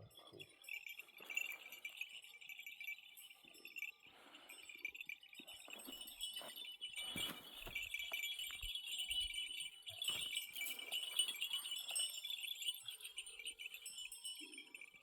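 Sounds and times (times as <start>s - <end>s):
livestock bells jingling: 0.0s - 15.0s.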